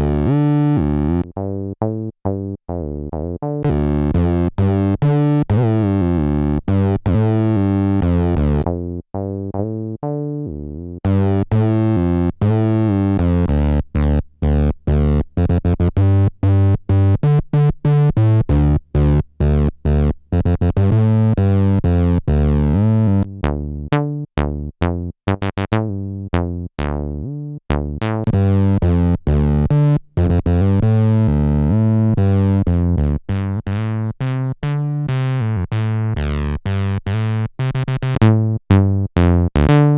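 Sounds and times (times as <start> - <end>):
squelchy acid synth bassline: 0.0 - 39.9.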